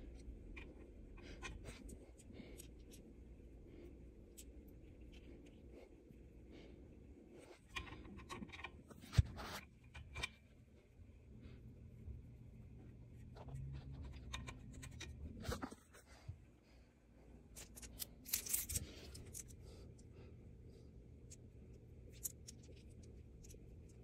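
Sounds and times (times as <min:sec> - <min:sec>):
scratching and rubbing handling noises: 0:00.0 - 0:24.0.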